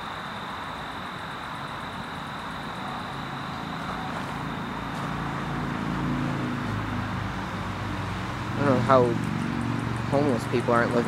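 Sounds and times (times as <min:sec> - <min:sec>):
road noise: 0:00.0 - 0:11.0
vehicle engine running: 0:01.5 - 0:11.0.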